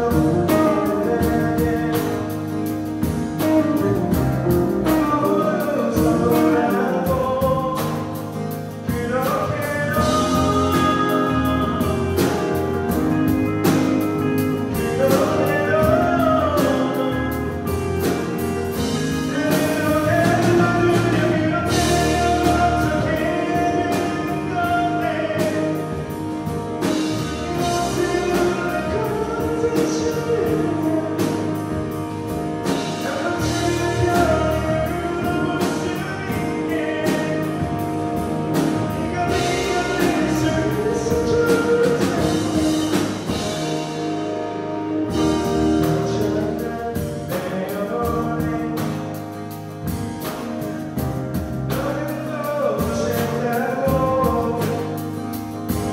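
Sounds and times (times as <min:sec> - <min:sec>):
man singing lead vocal: 0:00.0 - 0:44.0, 0:45.0 - 0:49.4, 0:51.6 - 0:55.9
live rock band playing: 0:00.0 - 0:55.9.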